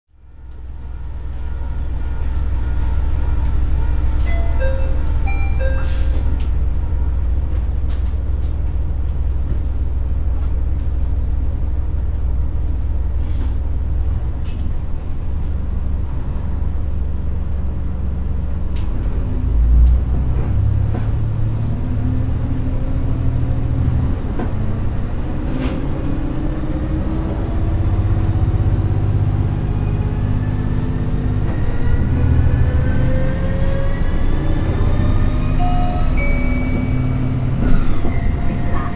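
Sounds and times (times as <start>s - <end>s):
railcar diesel engine rumble: 0.1s - 38.9s.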